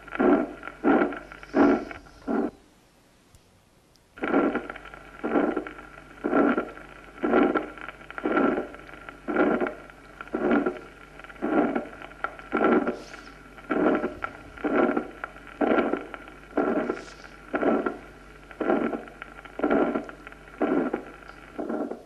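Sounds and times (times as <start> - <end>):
heartbeat with harsh murmur: 0.0 - 2.6, 4.2 - 22.0.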